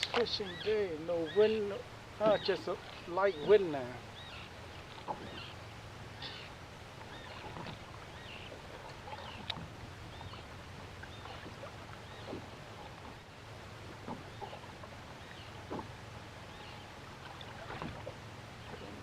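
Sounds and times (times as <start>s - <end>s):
water lapping against boat hull: 0.0s - 19.0s.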